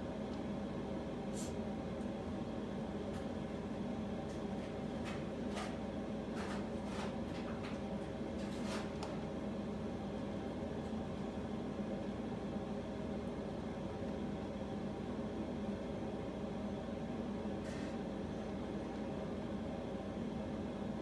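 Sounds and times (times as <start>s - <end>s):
appliance fan hum: 0.0s - 21.0s.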